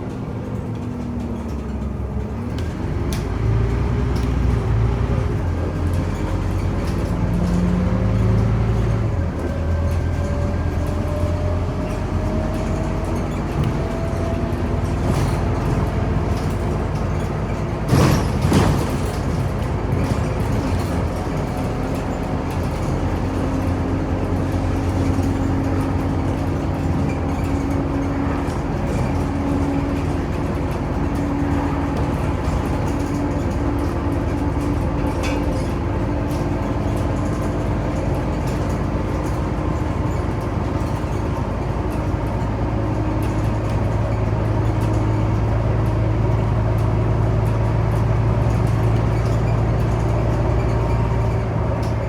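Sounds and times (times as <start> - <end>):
bus engine drone: 0.0 - 52.0
road noise: 0.0 - 52.0.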